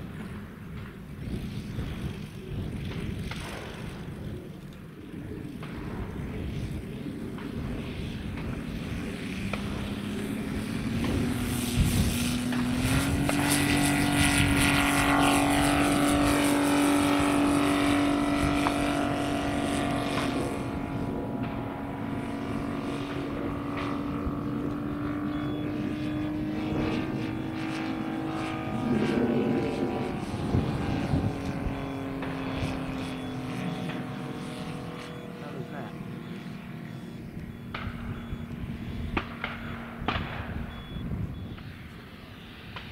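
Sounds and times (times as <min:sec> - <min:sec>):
model aircraft engine at full power: 0:00.0 - 0:42.9.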